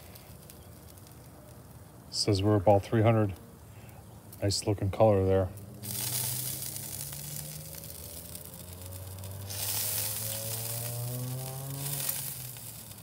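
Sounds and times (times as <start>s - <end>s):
fat sizzling on hot charcoal: 0.0s - 13.0s.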